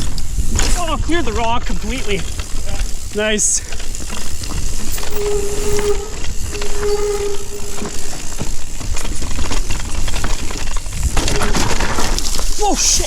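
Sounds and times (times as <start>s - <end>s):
wind rumble on microphone: 0.0s - 12.8s
bike rattling over bumps: 0.0s - 13.0s
bike tyres crunching on dirt: 0.0s - 13.0s.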